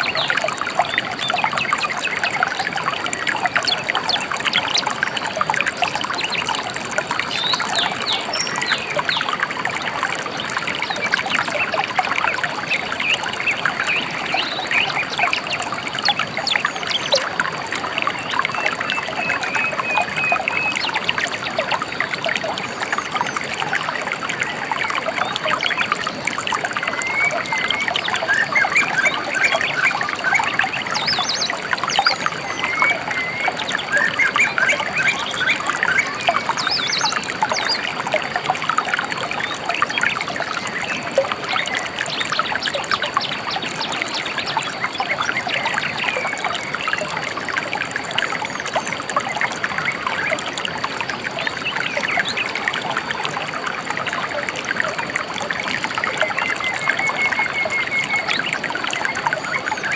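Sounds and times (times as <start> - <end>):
river trickling over stones: 0.0 - 59.9.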